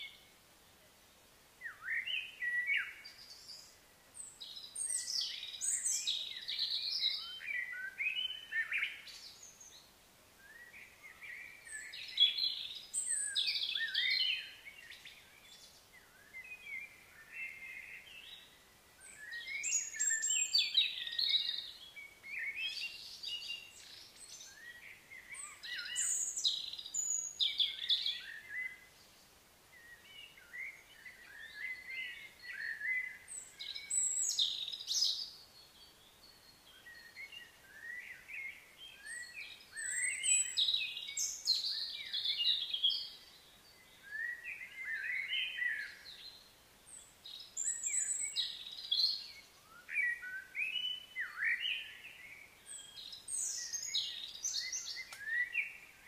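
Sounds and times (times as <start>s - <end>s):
songbirds chirping and warbling: 0.0s - 56.0s.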